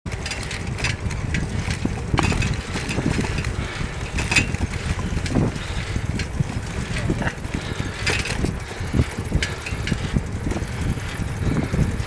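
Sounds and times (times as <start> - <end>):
bicycle clicks and rattles: 0.1 - 12.0
wind rumbling on microphone: 0.1 - 12.0.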